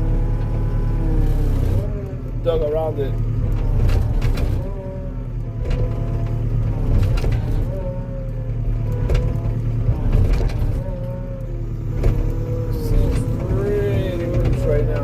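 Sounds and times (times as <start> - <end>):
skid steer engine whining: 0.0 - 15.0.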